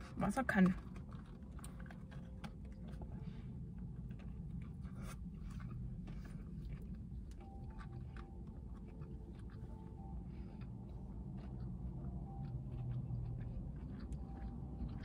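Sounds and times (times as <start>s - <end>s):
low steady rumble: 0.0s - 15.0s
person chewing food: 0.0s - 15.0s.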